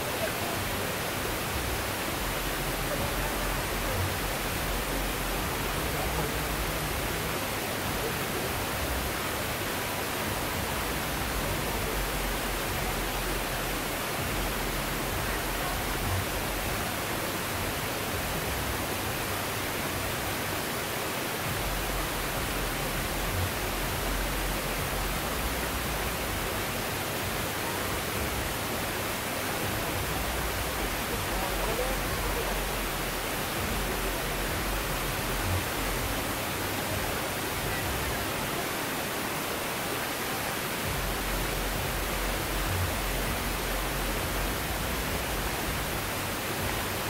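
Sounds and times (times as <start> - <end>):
waterfall rushing over rocks: 0.0 - 47.0.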